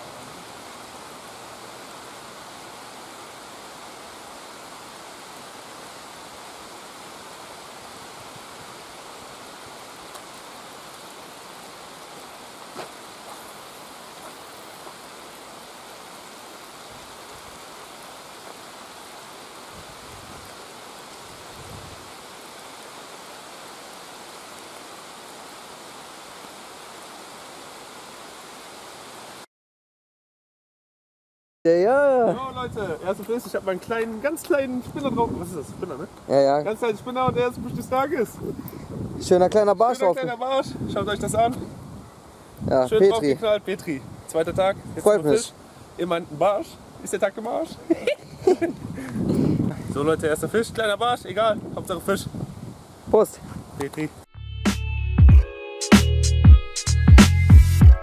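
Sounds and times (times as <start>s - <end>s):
steady rain hiss: 0.0s - 29.5s, 31.7s - 54.3s.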